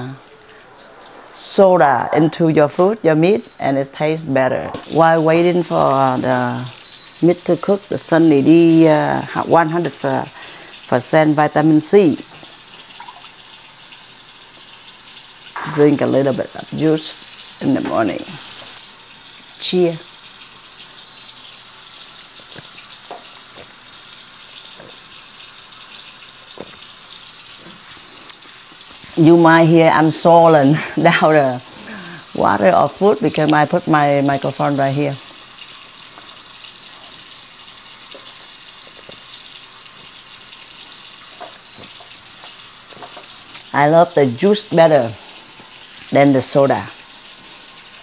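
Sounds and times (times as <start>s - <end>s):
chicken sizzling in pan: 0.0s - 2.5s, 4.7s - 48.0s.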